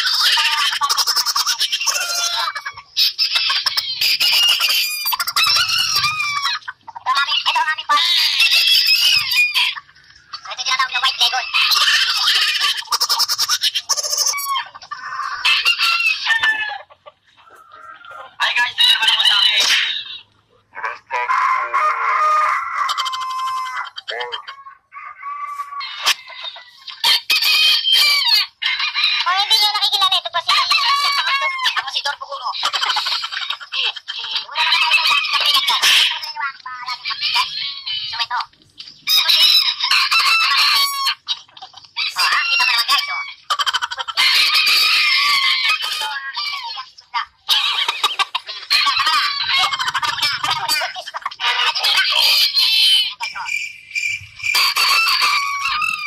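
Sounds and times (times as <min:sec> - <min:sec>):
roosters crowing: 0:00.0 - 0:09.9, 0:11.3 - 0:31.9, 0:39.0 - 0:41.3, 0:41.9 - 0:46.8, 0:47.4 - 0:56.0.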